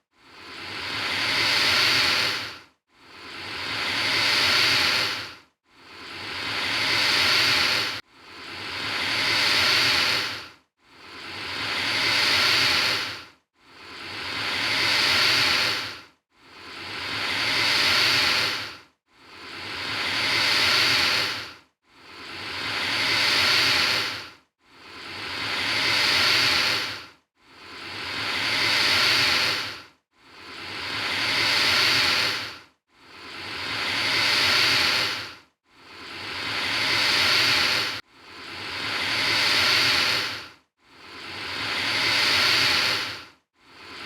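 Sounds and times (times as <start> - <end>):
alligator hissing: 0.4 - 2.5, 3.2 - 5.3, 5.9 - 10.4, 11.1 - 16.0, 16.6 - 24.2, 25.0 - 27.0, 27.7 - 29.8, 30.4 - 32.6, 33.2 - 40.5, 41.1 - 44.0.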